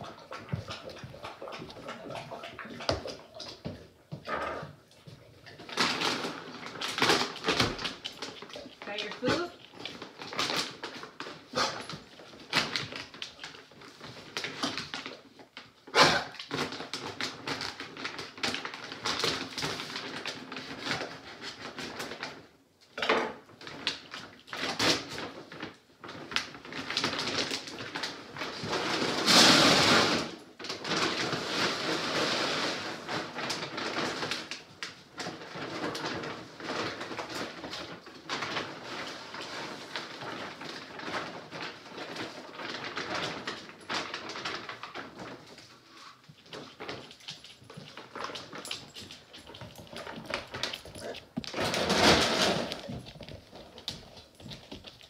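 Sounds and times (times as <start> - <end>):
plastic bag rustling: 0.0 - 22.6, 23.5 - 55.0.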